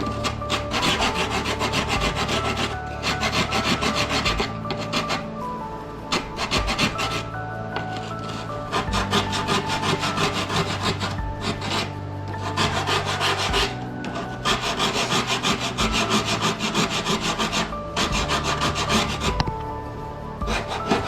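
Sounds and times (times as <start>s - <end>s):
rasp file scraping: 0.0s - 19.5s, 20.4s - 21.0s.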